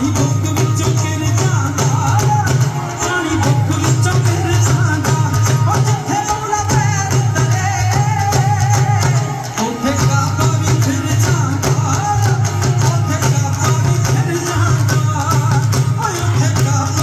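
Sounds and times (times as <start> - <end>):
dhol drum beat: 0.0 - 17.0.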